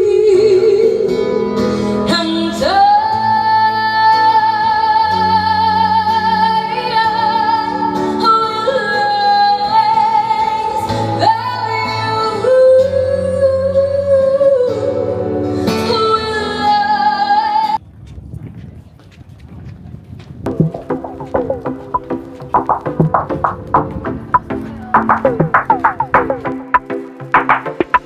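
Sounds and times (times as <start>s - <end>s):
guitar: 0.0s - 17.8s, 20.5s - 28.0s.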